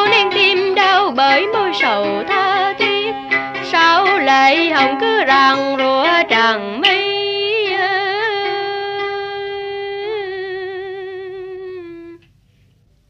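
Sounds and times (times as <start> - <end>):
person singing long note with vibrato: 0.0 - 12.2.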